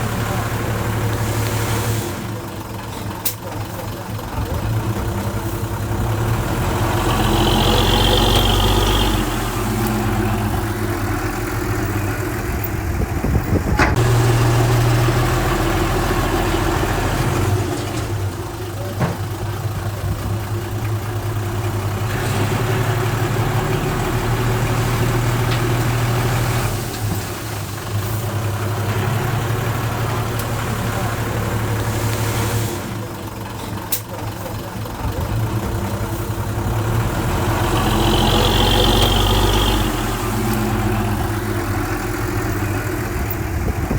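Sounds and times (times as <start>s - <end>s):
diesel engine of earthmover: 0.0s - 43.9s.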